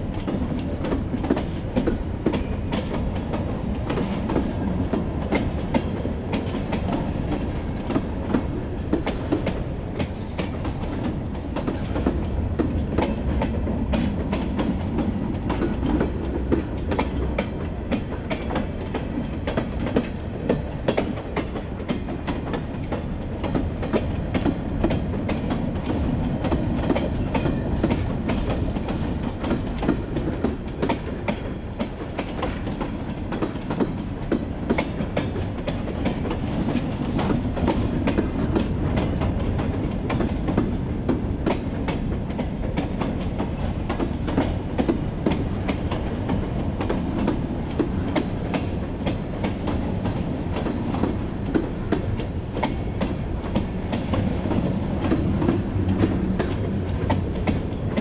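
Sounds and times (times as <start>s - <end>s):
freight train rumbling past: 0.0s - 58.0s
steel wheels clacking on rails: 0.0s - 58.0s.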